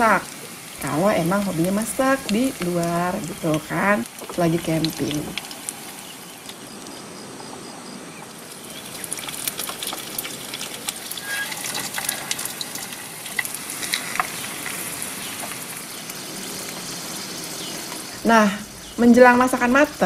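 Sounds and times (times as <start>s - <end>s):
fritters frying in hot oil: 0.0s - 7.0s, 8.2s - 20.0s.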